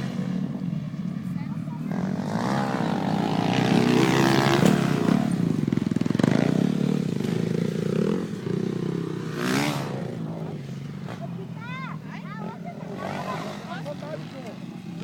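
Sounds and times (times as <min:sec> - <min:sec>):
dirt bike engine revving: 0:00.0 - 0:01.0, 0:01.6 - 0:15.0.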